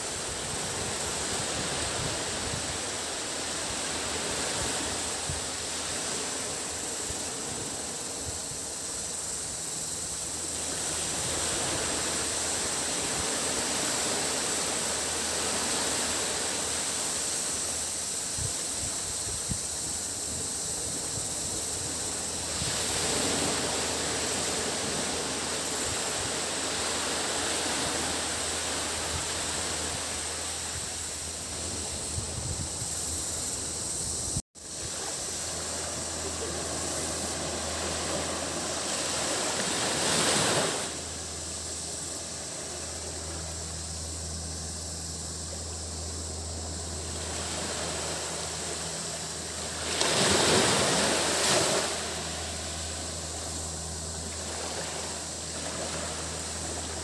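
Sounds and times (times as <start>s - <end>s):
sea waves washing onto beach: 0.0s - 44.4s, 46.8s - 57.0s
cicada drone: 0.0s - 57.0s.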